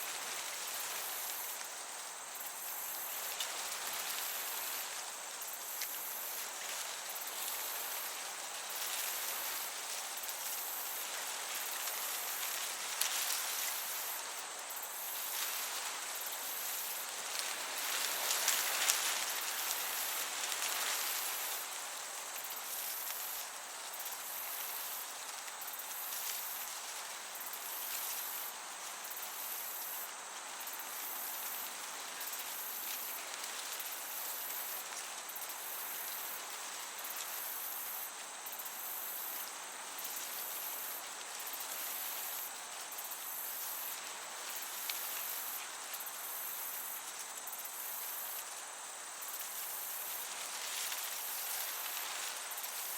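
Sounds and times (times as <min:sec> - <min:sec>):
breeze hissing: 0:00.0 - 0:52.9
crickets chirping: 0:00.0 - 0:52.9.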